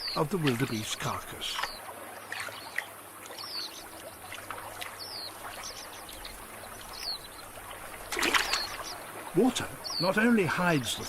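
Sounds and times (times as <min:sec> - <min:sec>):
water sloshing and trickling: 0:00.0 - 0:11.0.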